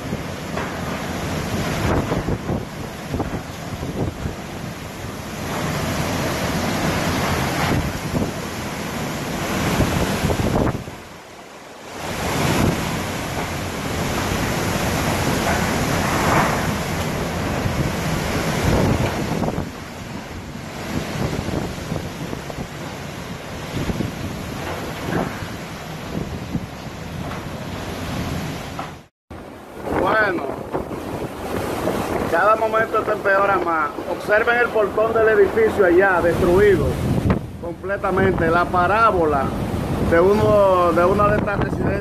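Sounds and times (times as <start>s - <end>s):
strong wind buffeting microphone: 0.0s - 11.2s, 11.8s - 42.0s.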